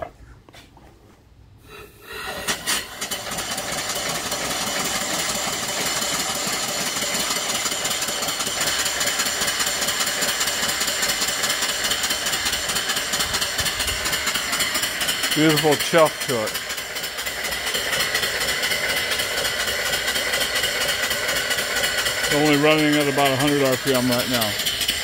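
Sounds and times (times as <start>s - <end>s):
steam engine chuffing: 1.7s - 25.0s
steam hiss: 1.7s - 25.0s.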